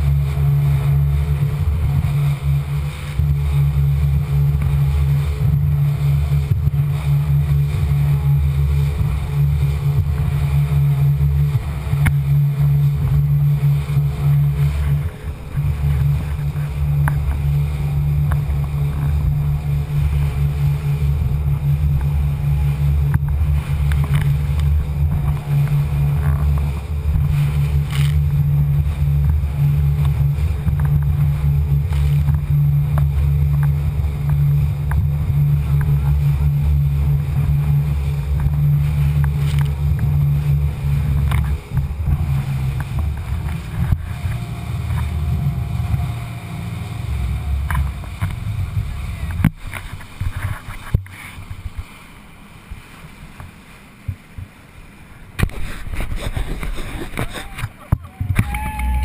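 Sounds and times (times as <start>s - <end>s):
muffled boat engine and wind rumble: 0.0s - 59.0s.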